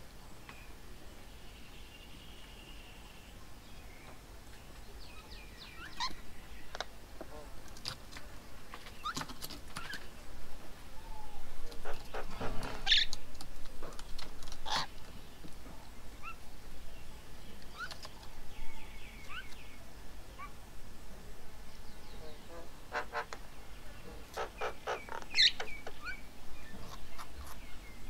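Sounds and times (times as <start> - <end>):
birds chirping: 0.2 - 10.3, 11.0 - 20.6, 21.5 - 28.0.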